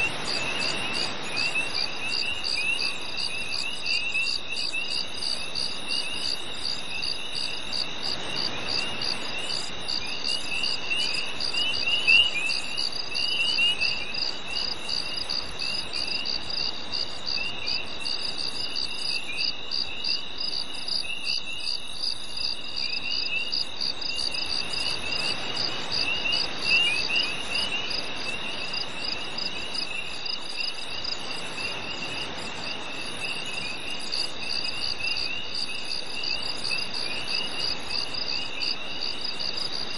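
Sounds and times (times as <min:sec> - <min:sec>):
constant high insect buzz: 0:00.0 - 0:39.9
crickets chirping: 0:00.0 - 0:39.9.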